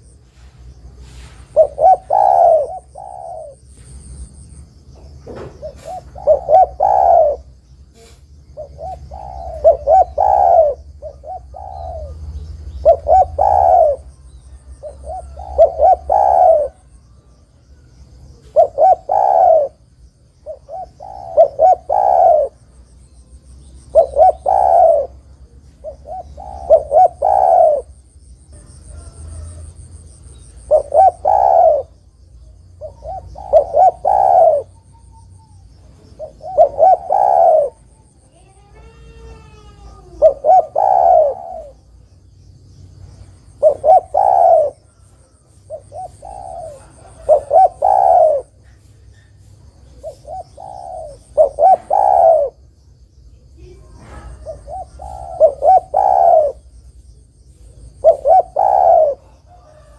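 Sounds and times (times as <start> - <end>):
dove cooing: 0.9 - 4.2, 5.0 - 42.0, 43.2 - 52.6, 53.5 - 56.7, 57.5 - 59.9.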